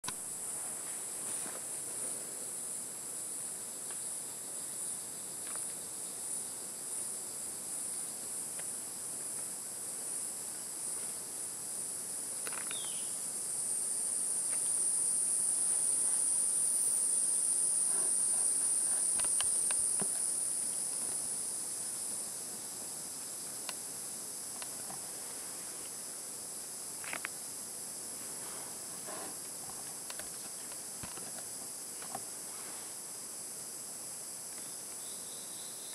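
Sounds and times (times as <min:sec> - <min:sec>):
high insect drone: 0:00.0 - 0:35.9
insects buzzing: 0:00.0 - 0:35.9.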